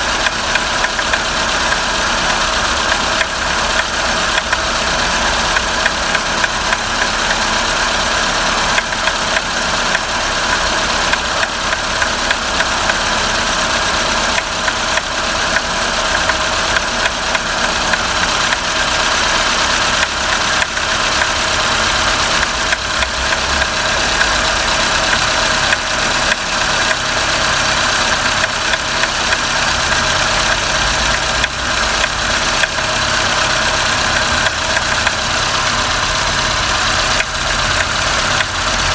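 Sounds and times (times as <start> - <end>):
car engine idling: 0.0 - 38.9
engine ticking clicks: 0.0 - 38.9.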